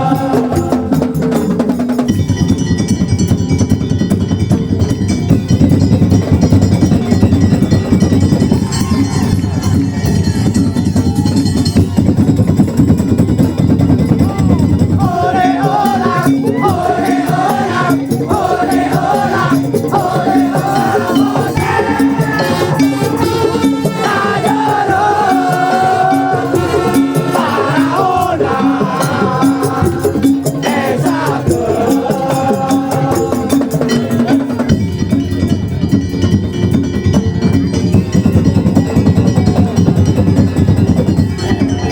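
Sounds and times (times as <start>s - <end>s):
percussion ensemble beat: 0.0s - 41.9s.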